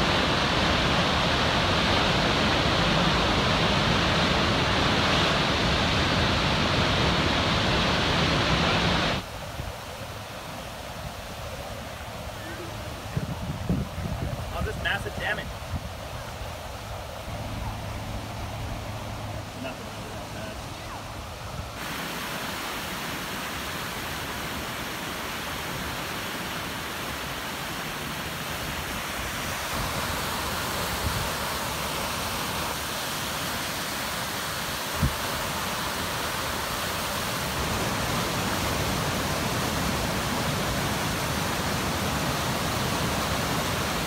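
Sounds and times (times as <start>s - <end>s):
river rushing and churning: 0.0s - 44.0s.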